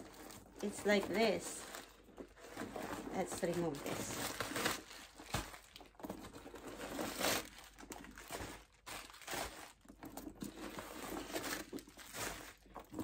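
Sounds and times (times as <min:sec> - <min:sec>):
paper crumpling and crinkling: 0:00.0 - 0:13.0.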